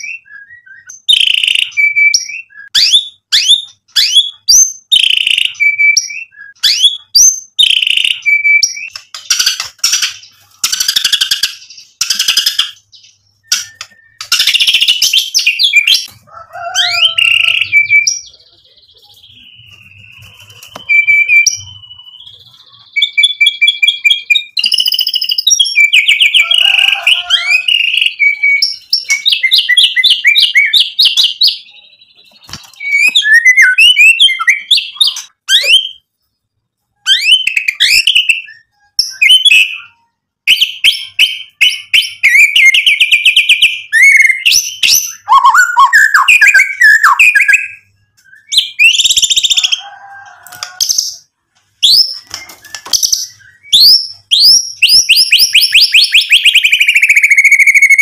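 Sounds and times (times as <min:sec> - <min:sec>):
bird singing varied song: 0:00.0 - 0:58.0.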